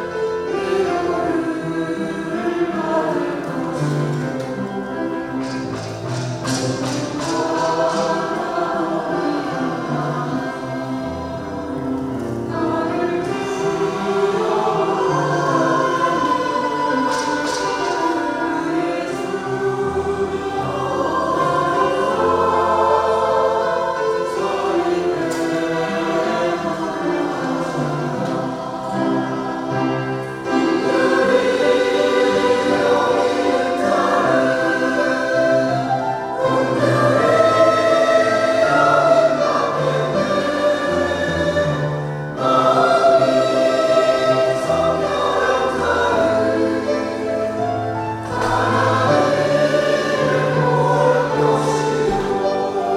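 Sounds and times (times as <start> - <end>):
church choir singing: 0.0 - 52.9.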